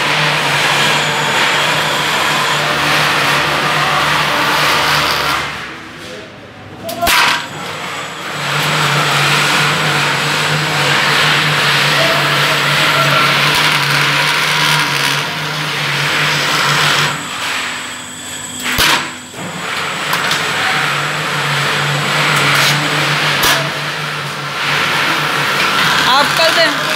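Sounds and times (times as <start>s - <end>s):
machine humming with hiss: 0.0s - 5.7s, 7.1s - 26.9s.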